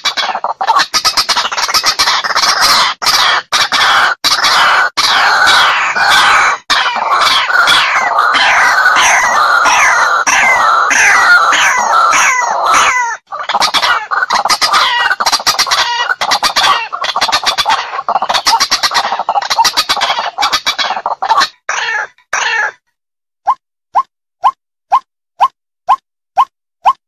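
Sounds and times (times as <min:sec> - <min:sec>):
bird croaking calls: 0:00.0 - 0:22.8.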